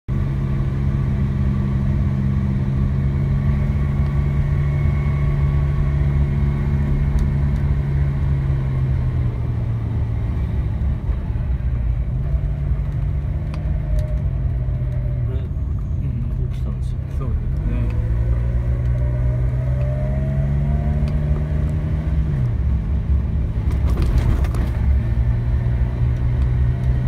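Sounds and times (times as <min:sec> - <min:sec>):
car engine running: 0:00.1 - 0:27.0
road and tyre rumble: 0:00.1 - 0:27.0.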